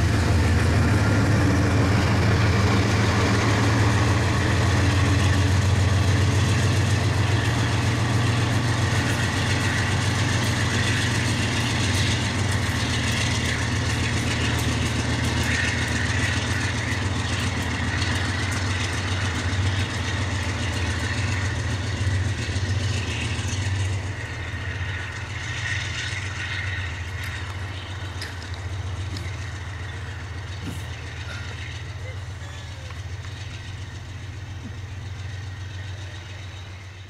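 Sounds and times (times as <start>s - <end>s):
locomotive engine humming: 0.0s - 37.0s.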